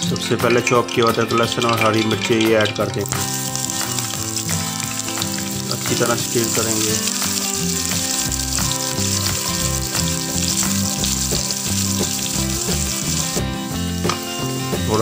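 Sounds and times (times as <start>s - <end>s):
food sizzling in hot oil: 1.6s - 15.0s.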